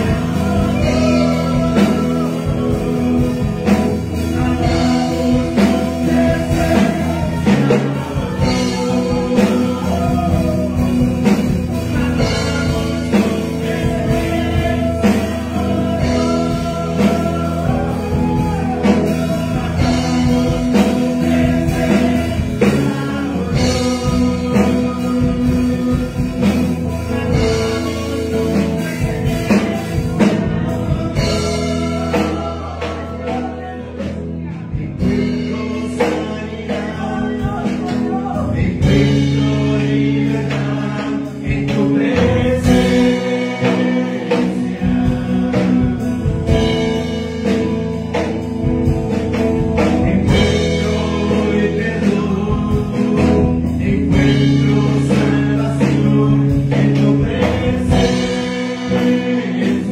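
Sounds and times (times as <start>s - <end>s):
man singing into microphone: 0.0s - 59.9s
music with held chords: 0.0s - 59.9s.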